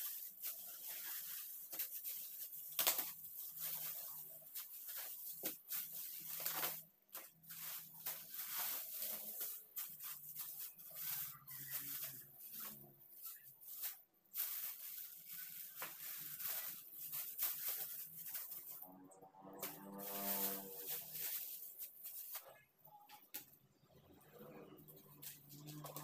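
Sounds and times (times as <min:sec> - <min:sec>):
groceries rustling and knocking: 0:00.0 - 0:18.9, 0:19.6 - 0:23.5.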